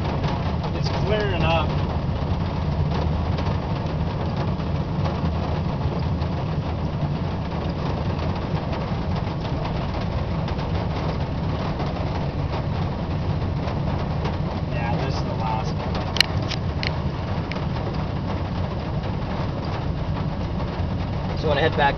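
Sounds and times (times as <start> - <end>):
vehicle rumble inside cabin: 0.0 - 21.9.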